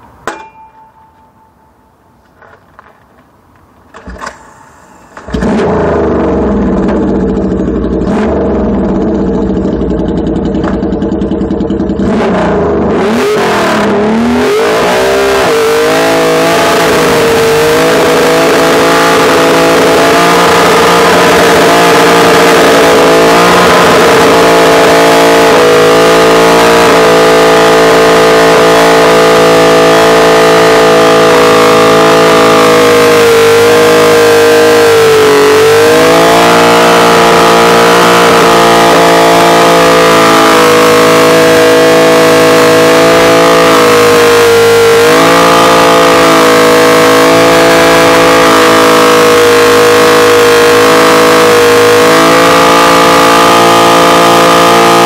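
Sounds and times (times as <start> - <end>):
motorcycle engine revving: 4.0 - 55.0
tire squealing on pavement: 4.7 - 55.0.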